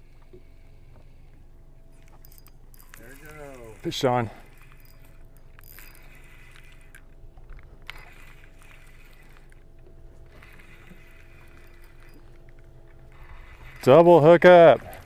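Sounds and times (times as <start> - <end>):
faint steady hum: 0.0 - 15.0
lake water around a boat: 0.0 - 15.0
wind: 0.0 - 15.0.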